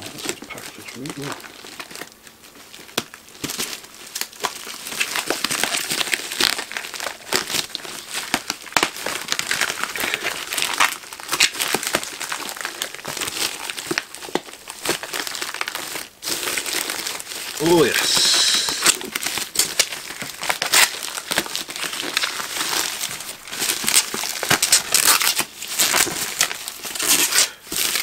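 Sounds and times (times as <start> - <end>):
plastic bag crinkling and tearing: 0.0 - 28.0.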